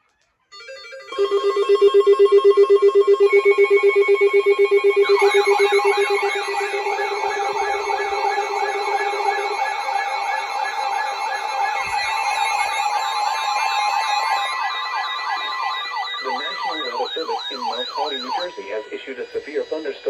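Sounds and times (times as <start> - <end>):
buzzy pulsing alarm tone: 0.6 - 20.0
fast whooping siren sweep: 0.9 - 20.0.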